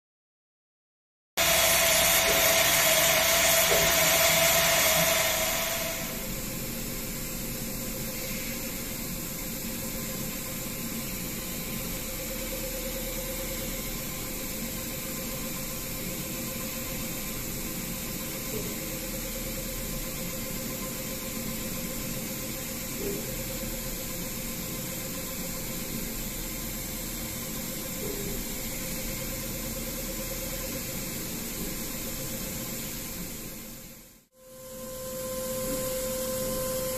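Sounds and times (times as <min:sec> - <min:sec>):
engraving spindle hiss and whine: 0:01.4 - 0:33.1, 0:33.7 - 0:36.9.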